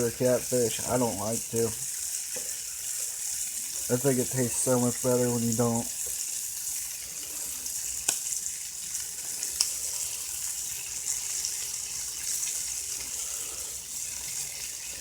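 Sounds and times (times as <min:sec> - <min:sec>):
fish sizzling in a pan: 0:00.0 - 0:15.0.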